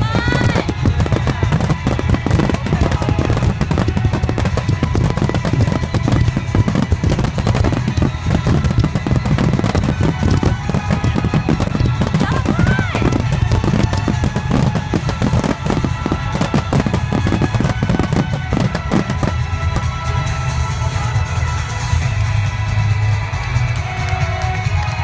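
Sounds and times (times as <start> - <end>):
deep fireworks booms: 0.0 - 22.4
fireworks bursting and crackling: 0.0 - 25.0.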